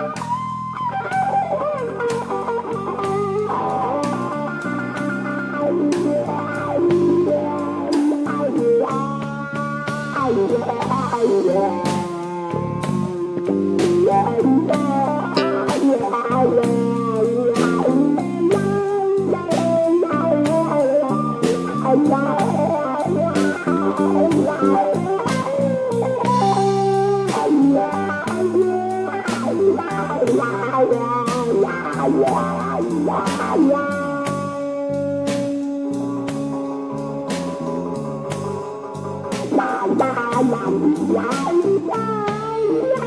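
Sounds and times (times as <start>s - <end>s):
bass guitar: 0.0s - 43.0s
electric guitar lead lines: 0.0s - 43.0s
steady drum beat: 0.1s - 43.0s.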